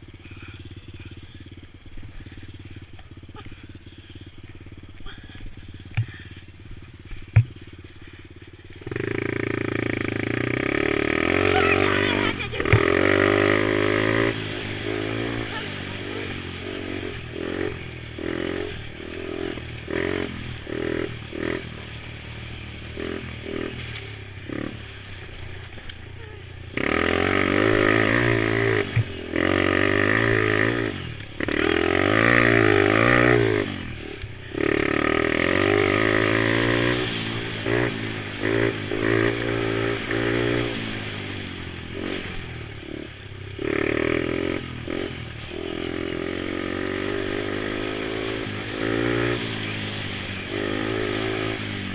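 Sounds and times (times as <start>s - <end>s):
small quad engine revving: 0.0s - 51.9s.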